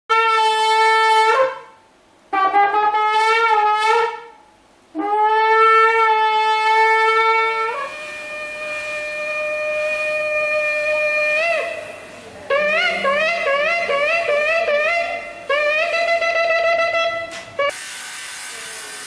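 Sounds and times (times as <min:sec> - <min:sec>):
shofar blasts: 0:00.1 - 0:18.0
high steady shofar note: 0:00.1 - 0:19.0.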